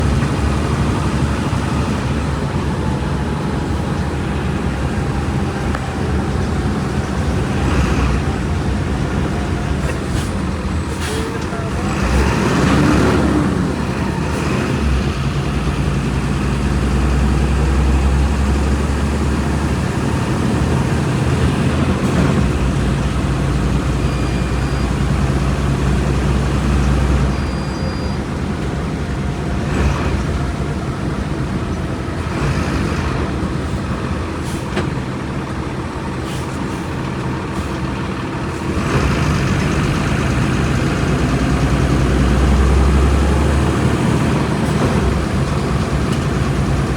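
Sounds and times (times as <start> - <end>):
diesel bus engine running: 0.0 - 46.9.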